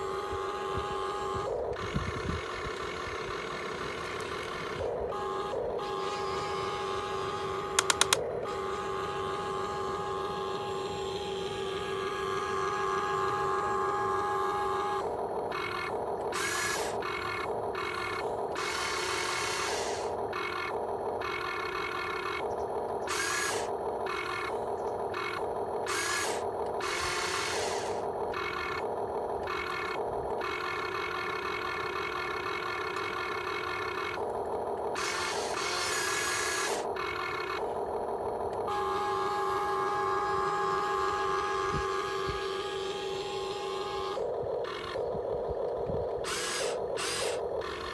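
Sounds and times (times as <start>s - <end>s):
electric motors whirring: 0.0s - 47.9s.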